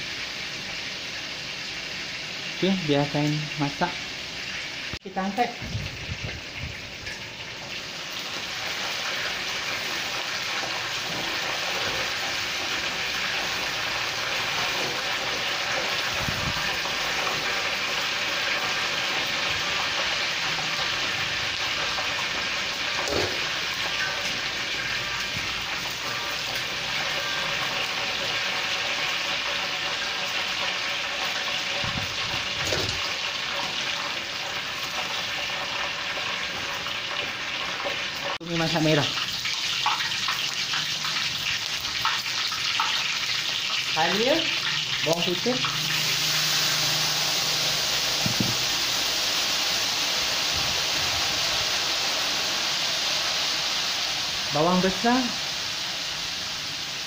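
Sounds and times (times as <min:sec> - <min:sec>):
oil sizzling: 0:00.0 - 0:57.0.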